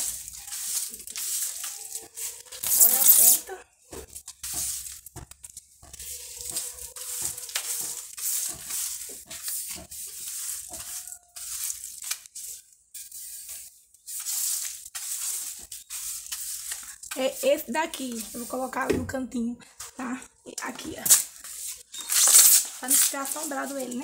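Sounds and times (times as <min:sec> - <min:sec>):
broom sweeping leaves on tiles: 0:00.0 - 0:18.9, 0:20.6 - 0:24.0.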